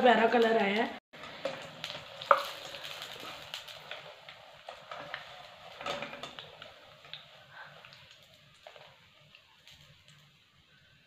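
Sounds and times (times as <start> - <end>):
frying oil sizzling: 0.0 - 11.0.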